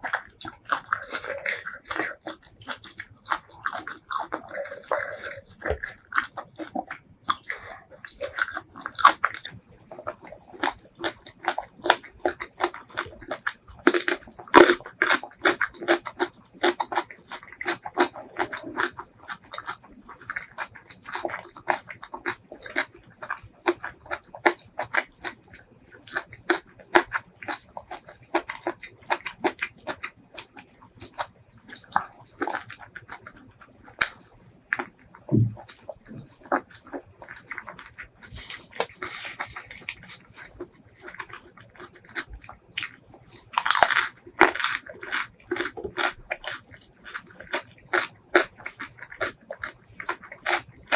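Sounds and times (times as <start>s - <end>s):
chewing and biting: 0.0s - 50.9s.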